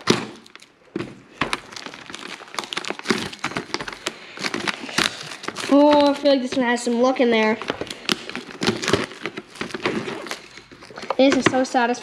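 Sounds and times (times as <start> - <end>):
plastic shrink wrap crinkling: 0.0 - 12.0.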